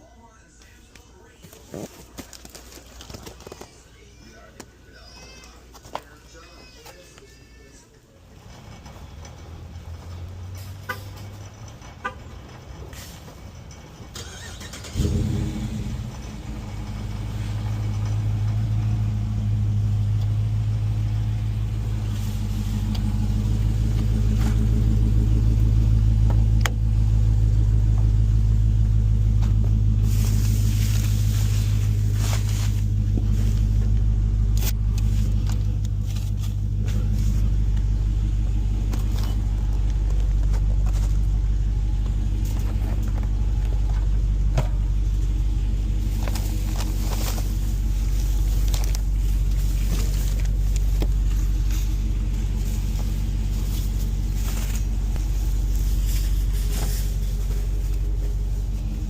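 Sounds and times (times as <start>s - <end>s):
car engine starting and running: 8.2s - 59.0s.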